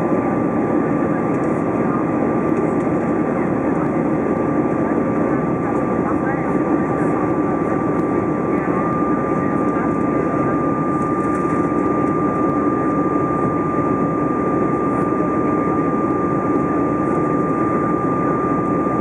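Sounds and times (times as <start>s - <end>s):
airplane cabin engine rush: 0.0s - 19.0s.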